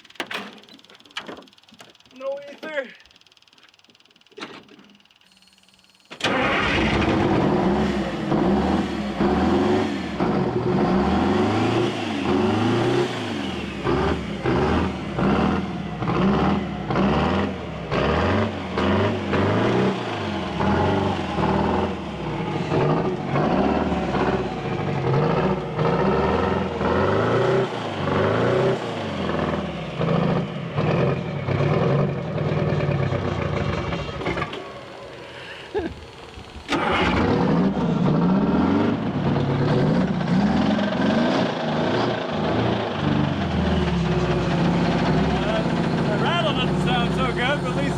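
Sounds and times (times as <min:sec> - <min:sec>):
diesel engine starting and revving: 0:06.1 - 0:47.9.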